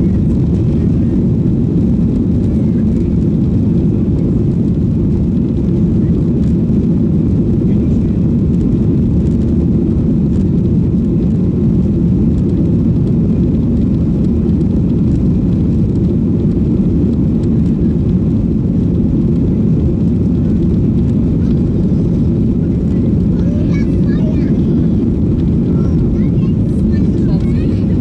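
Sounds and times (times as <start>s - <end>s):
jet engines low rumble: 0.0s - 28.0s.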